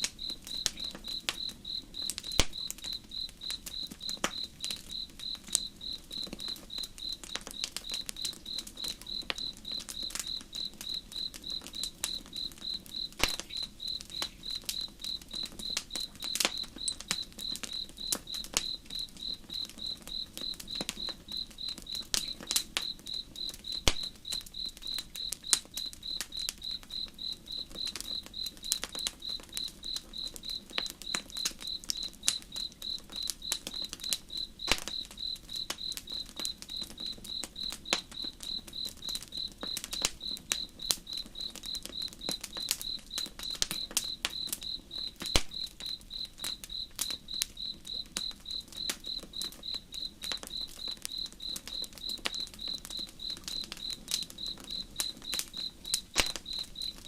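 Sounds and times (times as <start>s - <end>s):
crackling campfire: 0.0s - 57.0s
crickets chirping: 0.0s - 57.0s.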